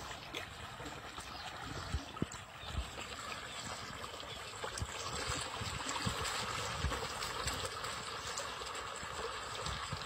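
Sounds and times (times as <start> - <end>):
water rushing and splashing: 0.0 - 10.0.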